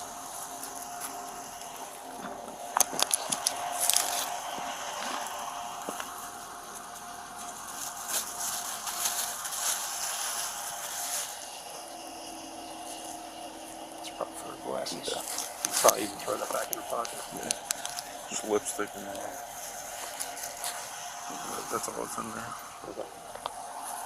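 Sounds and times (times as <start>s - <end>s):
fabric rustling and scraping: 0.0s - 12.1s, 15.1s - 24.0s
sharp clicks and scratches: 0.6s - 11.4s, 15.0s - 23.6s.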